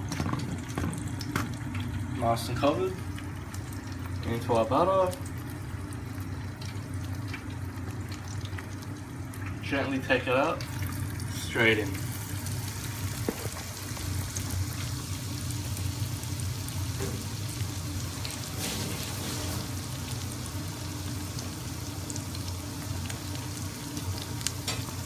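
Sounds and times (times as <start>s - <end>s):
food deep-frying in oil: 0.0s - 25.0s.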